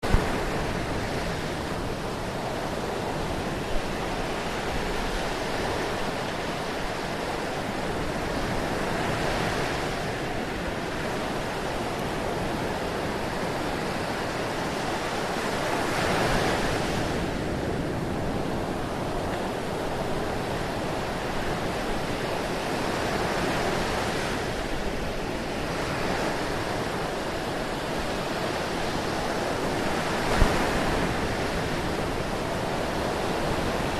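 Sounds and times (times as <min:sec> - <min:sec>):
ocean waves breaking: 0:00.0 - 0:33.9.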